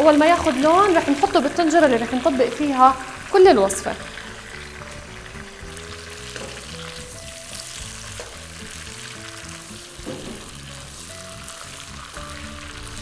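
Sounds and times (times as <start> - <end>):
background music: 0.0 - 13.0
chicken frying in hot oil: 0.0 - 13.0.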